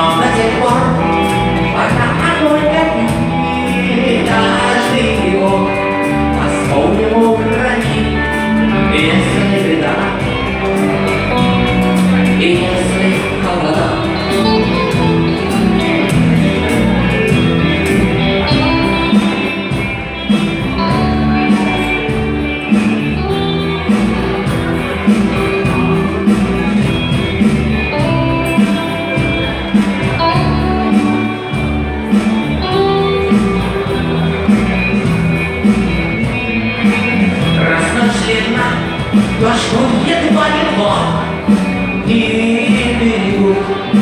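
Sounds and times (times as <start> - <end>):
bass line: 0.0 - 44.0
electric guitar: 0.0 - 44.0
steady drum beat: 0.0 - 44.0.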